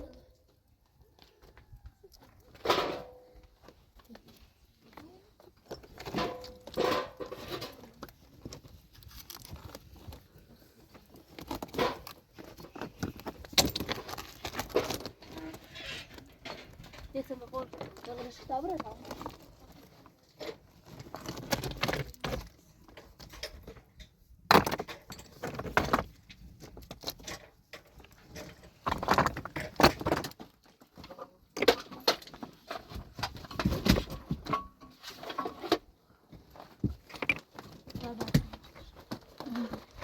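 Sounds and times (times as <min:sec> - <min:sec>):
stones clattering and scraping: 0:02.4 - 0:40.0.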